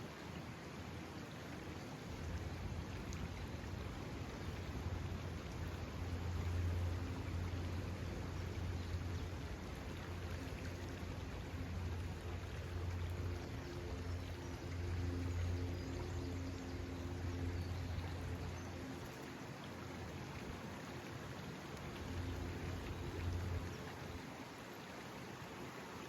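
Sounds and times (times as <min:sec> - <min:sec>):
water hissing at a lake: 0:00.0 - 0:26.0.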